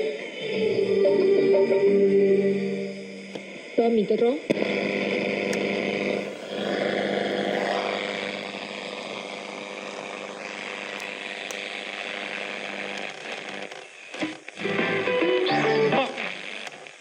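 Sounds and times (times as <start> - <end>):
radio tuning warble: 0.0 - 17.0
radio static hiss: 2.1 - 17.0.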